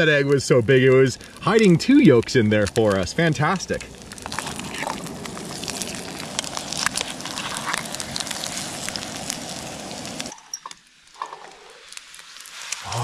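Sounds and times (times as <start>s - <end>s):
food sizzling in a pan: 1.0s - 13.0s.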